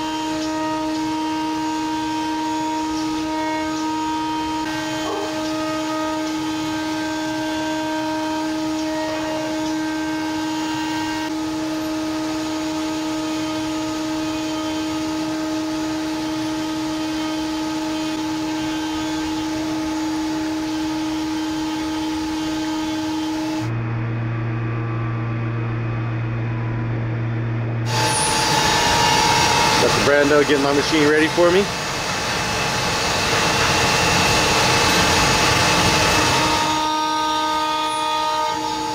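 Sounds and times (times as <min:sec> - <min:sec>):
shop machinery humming: 0:00.0 - 0:38.9.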